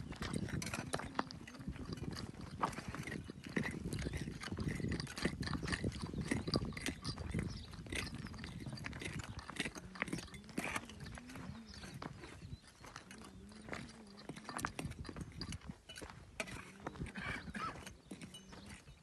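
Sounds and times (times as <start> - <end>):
stones and gravel crunching: 0.0 - 19.0.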